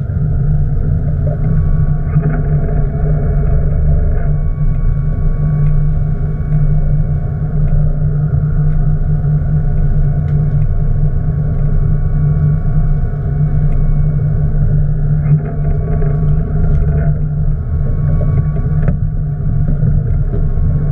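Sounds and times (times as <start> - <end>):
boat engine droning: 0.0 - 20.9
thin steady whine: 0.0 - 20.9.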